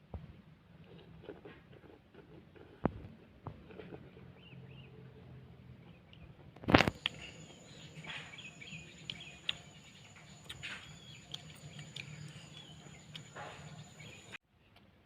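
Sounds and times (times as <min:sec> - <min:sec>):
wet chewing and smacking: 0:00.8 - 0:04.8, 0:05.9 - 0:14.4.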